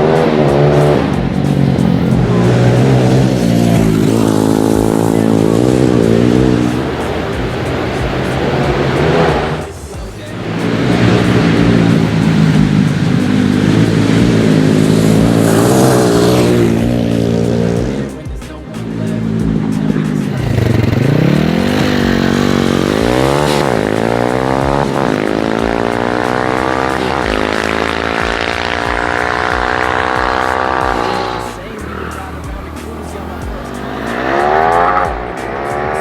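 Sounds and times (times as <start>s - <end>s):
motorbike engine revving: 0.0s - 36.0s.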